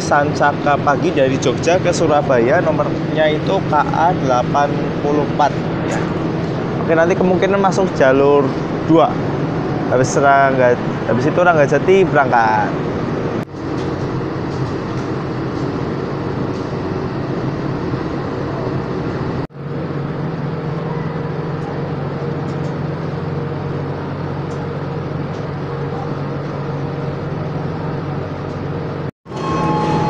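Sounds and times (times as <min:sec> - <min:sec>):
low drone in passenger coach: 0:00.0 - 0:30.0
train mechanical hum: 0:00.0 - 0:30.0.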